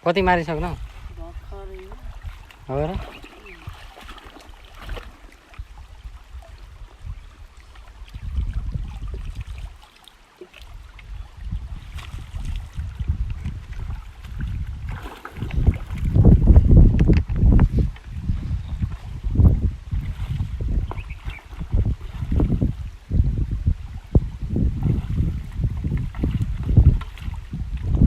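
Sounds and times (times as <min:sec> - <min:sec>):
wind rumbling on microphone: 0:00.0 - 0:09.9, 0:10.6 - 0:28.0
faint river water: 0:00.0 - 0:28.0.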